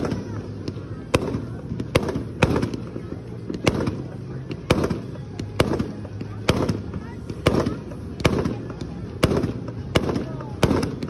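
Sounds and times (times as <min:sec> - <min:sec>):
distant fireworks bangs: 0:00.0 - 0:11.0.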